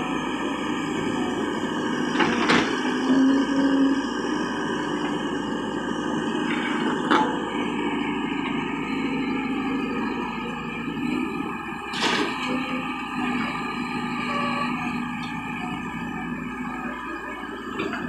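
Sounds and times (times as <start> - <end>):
excavator diesel engine: 0.0 - 18.0.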